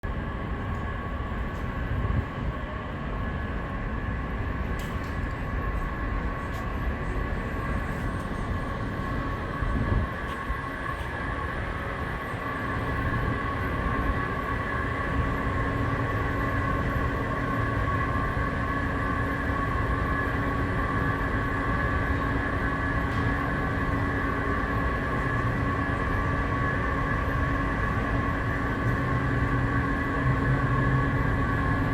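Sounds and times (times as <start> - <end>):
escalator machinery rumble: 0.0 - 31.9
high whine: 0.0 - 31.9.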